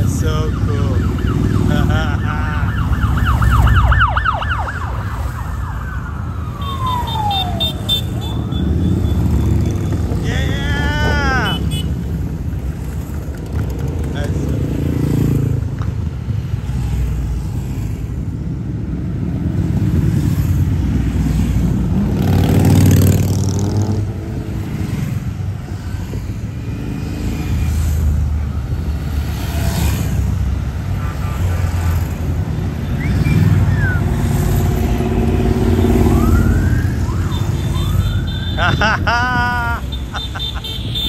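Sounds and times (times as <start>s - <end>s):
motorcycles riding past: 0.0s - 41.0s.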